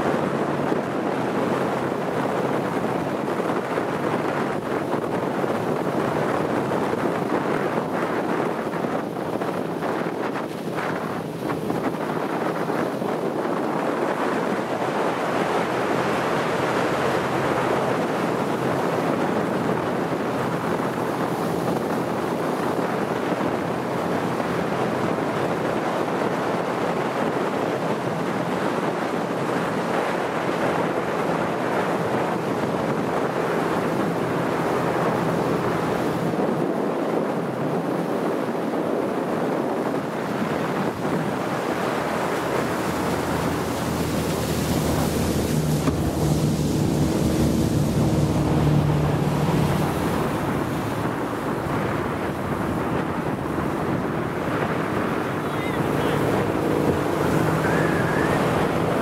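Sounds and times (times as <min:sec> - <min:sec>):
low engine hum: 0:00.0 - 0:36.9, 0:39.9 - 0:59.0
water rushing: 0:00.0 - 0:59.0
wind buffeting microphone: 0:00.0 - 0:59.0.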